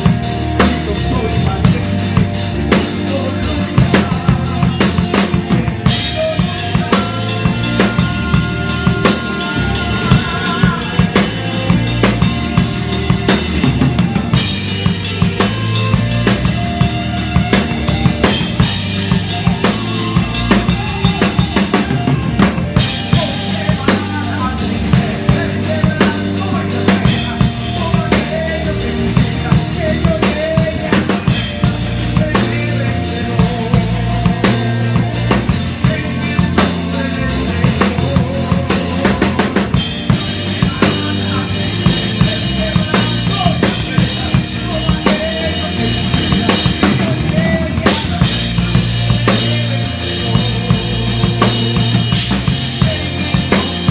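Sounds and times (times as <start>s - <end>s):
man singing into microphone: 0.0s - 16.6s, 17.4s - 53.9s
drum kit beat: 0.0s - 53.9s
electric bass: 0.0s - 53.9s
electric guitar: 0.0s - 53.9s
keyboard: 0.0s - 53.9s.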